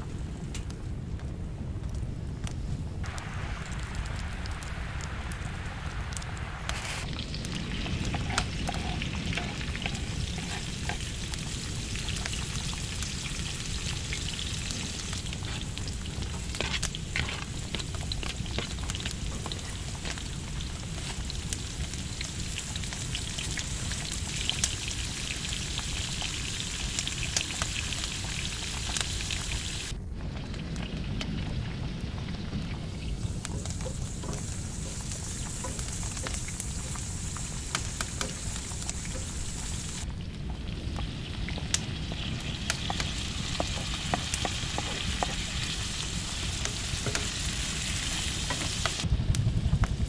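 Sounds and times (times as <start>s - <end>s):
vegetables sizzling in a pan: 3.0s - 29.9s, 32.3s - 40.0s, 40.8s - 49.1s.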